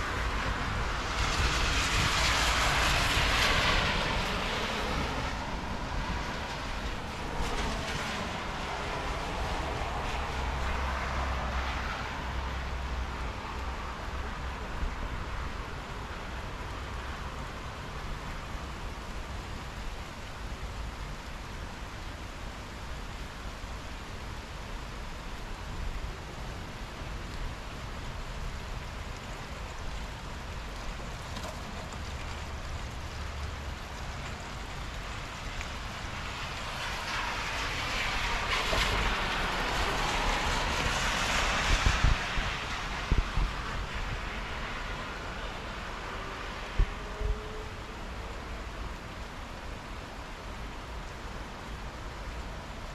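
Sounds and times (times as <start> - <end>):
steady rain: 0.0 - 52.9
wind rumble on microphone: 0.0 - 52.9.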